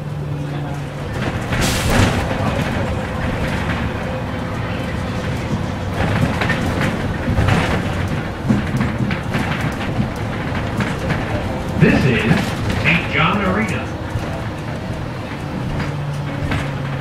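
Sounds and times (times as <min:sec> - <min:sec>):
bus body rattles and knocks: 0:00.0 - 0:17.0
bus engine and road rumble: 0:00.0 - 0:17.0.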